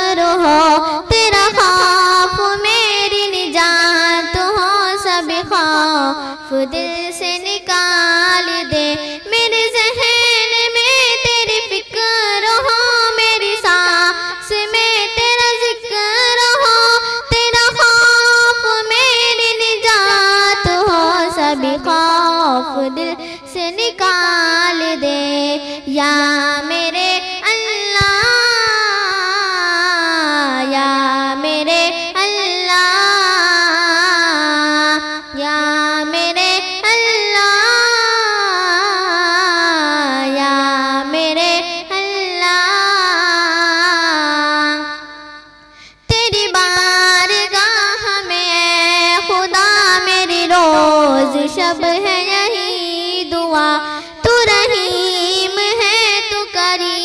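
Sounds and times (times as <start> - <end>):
girl singing: 0.0 - 57.0.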